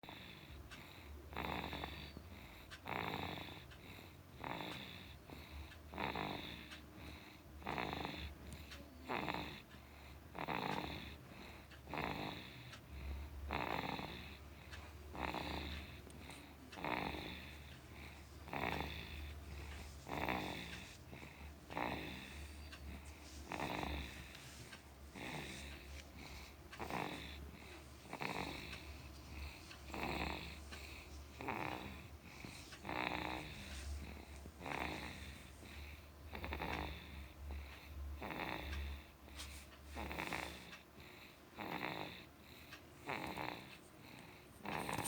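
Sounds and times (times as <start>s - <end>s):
baby snoring: 0.0s - 45.0s.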